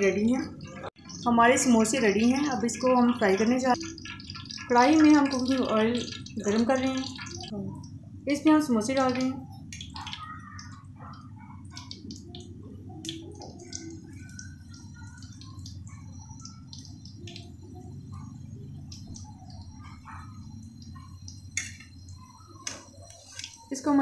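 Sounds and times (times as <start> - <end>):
oil crackling and popping: 0.6 - 8.0, 8.8 - 23.8.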